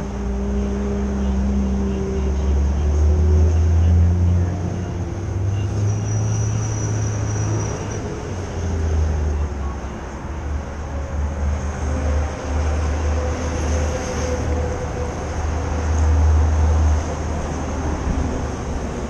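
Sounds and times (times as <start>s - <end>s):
street traffic passing: 0.0s - 19.0s.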